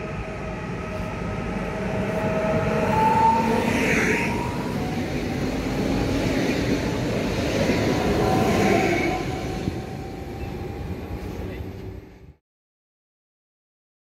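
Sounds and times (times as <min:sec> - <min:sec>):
train passing: 0:00.0 - 0:12.4.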